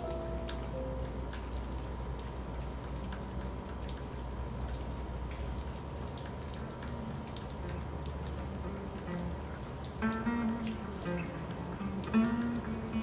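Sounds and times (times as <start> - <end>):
raindrops ticking: 0.0 - 13.0
steady rain: 0.0 - 13.0.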